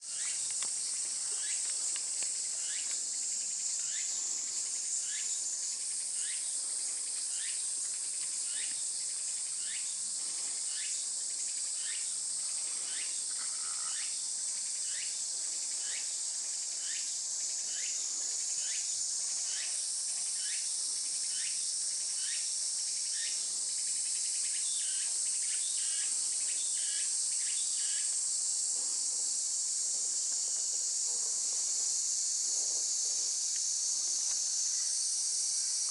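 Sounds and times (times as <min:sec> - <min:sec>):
cicada singing: 0:00.0 - 0:35.9.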